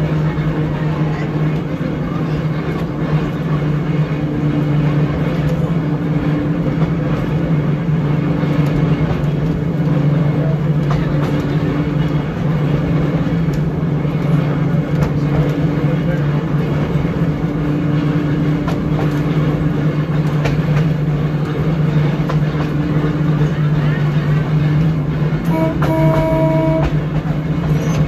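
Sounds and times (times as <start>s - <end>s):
steel wheels rumbling on rail: 0.0s - 28.0s
trolley motor hum: 0.0s - 28.0s.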